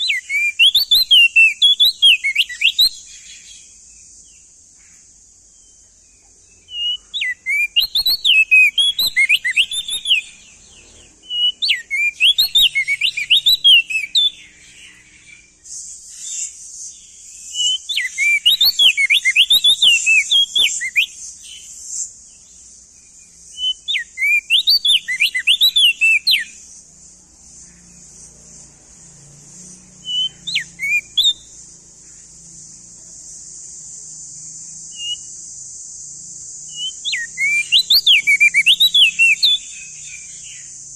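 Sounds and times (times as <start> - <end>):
bird singing: 0.0 - 40.9
steady high hiss: 0.0 - 40.9.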